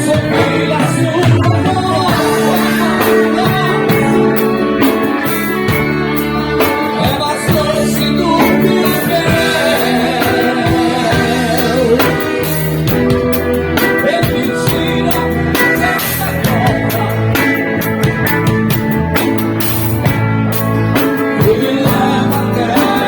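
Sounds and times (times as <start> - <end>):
live rock band playing: 0.0 - 23.0
wavering lead melody: 0.7 - 23.0.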